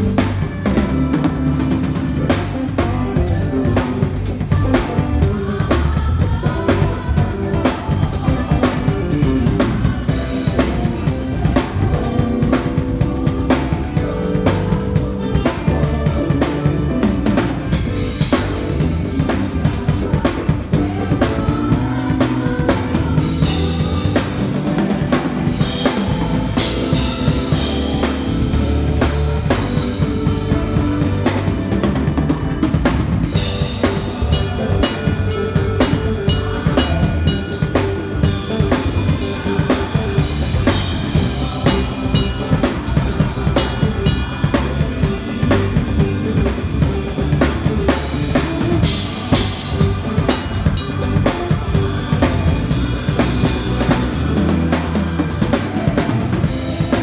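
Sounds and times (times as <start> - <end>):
drum kit groove: 0.0 - 57.0.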